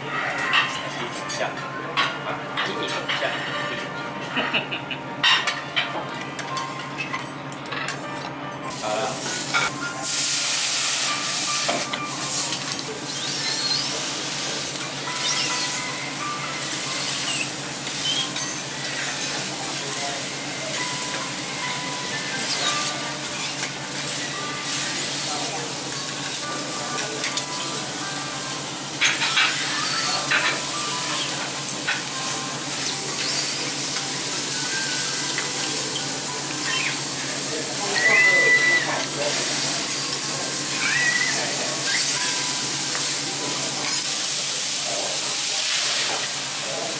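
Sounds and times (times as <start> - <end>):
food sizzling on griddle: 8.7 - 46.9.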